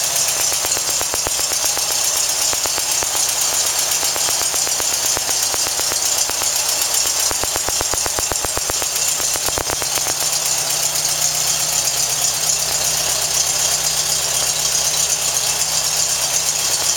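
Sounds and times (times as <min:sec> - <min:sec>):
engine idling: 0:00.0 - 0:16.9.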